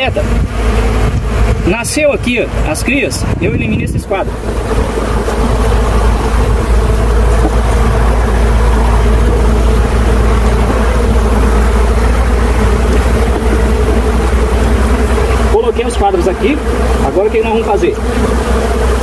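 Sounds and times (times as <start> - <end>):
wind rumble on microphone: 0.0 - 17.1
honeybees buzzing: 0.0 - 19.0.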